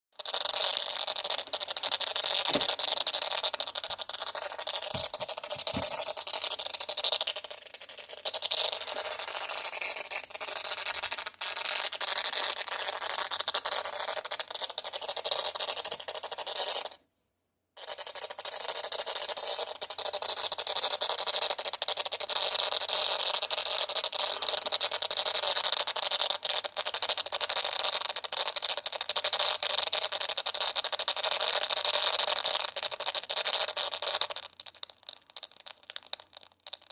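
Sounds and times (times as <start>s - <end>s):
crackling high-pitched hiss: 0.2s - 17.0s, 17.8s - 36.9s.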